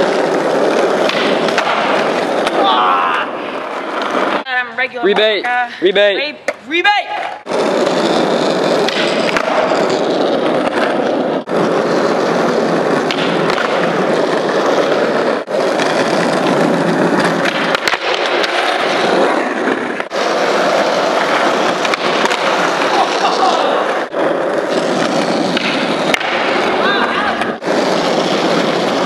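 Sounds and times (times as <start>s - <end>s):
skateboard wheels rolling on concrete: 0.0s - 29.0s.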